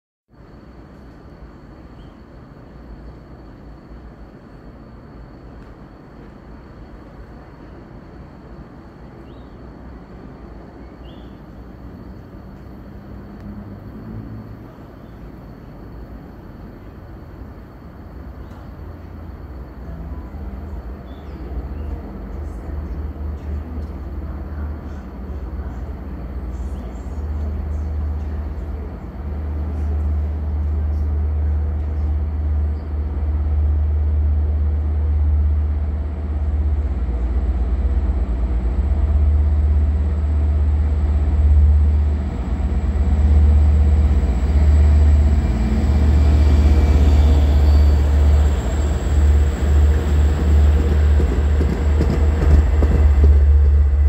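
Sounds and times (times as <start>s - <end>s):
diesel locomotive approaching: 0.3s - 54.0s
wheel and rail noise: 0.7s - 54.0s.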